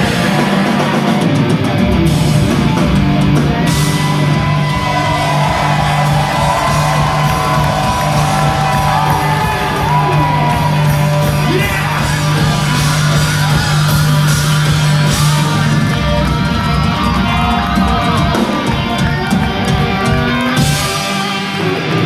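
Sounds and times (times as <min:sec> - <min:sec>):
hard rock band playing: 0:00.0 - 0:22.0
crowd shouts and whoops: 0:03.6 - 0:22.0.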